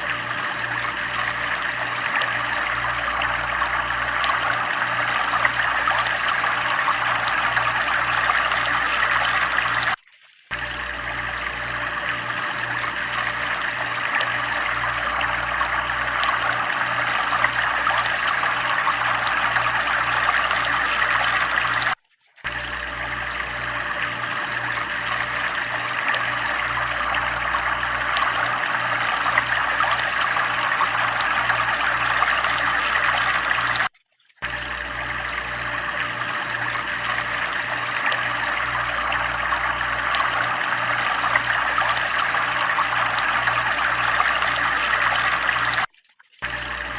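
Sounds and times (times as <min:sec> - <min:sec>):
water pouring and splashing: 0:00.0 - 0:46.9.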